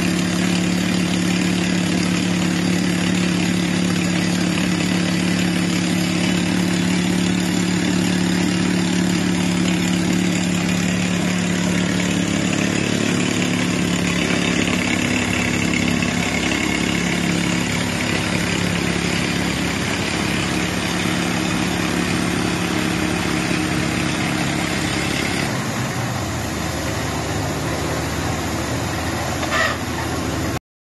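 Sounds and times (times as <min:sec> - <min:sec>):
drilling rig engine: 0:00.0 - 0:30.6.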